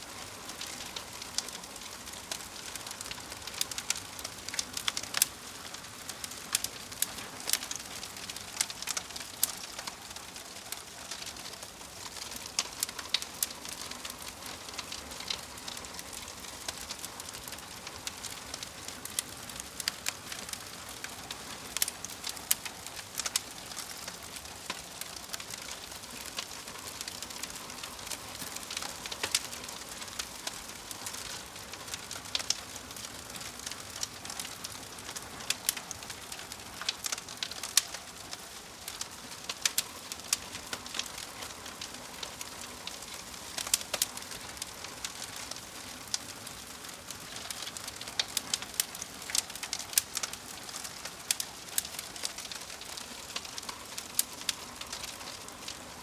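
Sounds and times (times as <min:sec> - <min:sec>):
logs crackling and popping: 0:00.0 - 0:56.0
wood fire hissing: 0:00.0 - 0:56.0.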